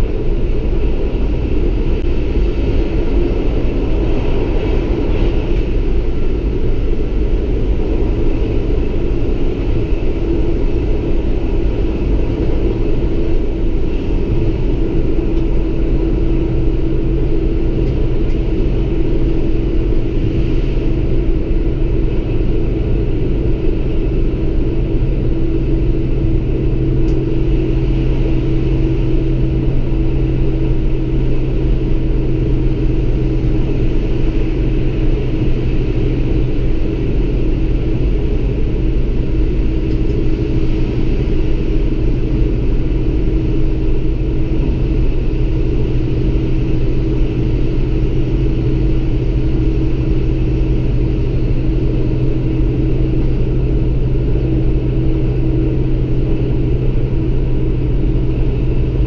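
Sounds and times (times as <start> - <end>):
constant low drone: 0.0 - 59.0
railcar engine rumble: 0.0 - 59.0.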